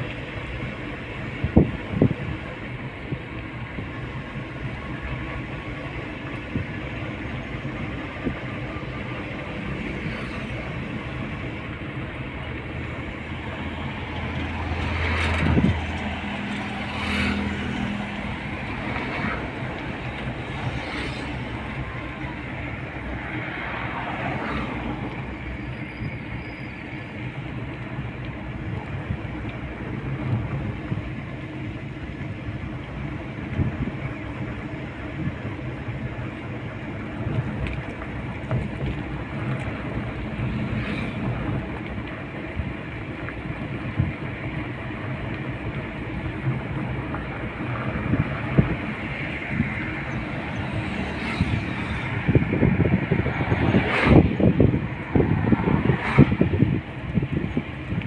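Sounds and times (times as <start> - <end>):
traffic rumble: 0.0 - 58.0
vehicles passing by: 0.0 - 58.0.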